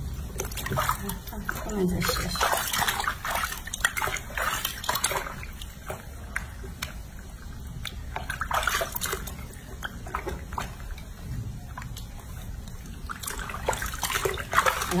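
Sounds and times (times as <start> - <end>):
water sloshing in a washbasin: 0.0 - 15.0.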